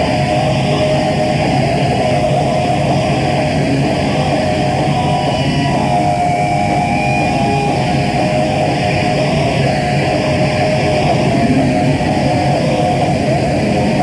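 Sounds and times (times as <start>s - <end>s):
distorted electric guitar: 0.0s - 14.0s
heavy metal band playing: 0.0s - 14.0s.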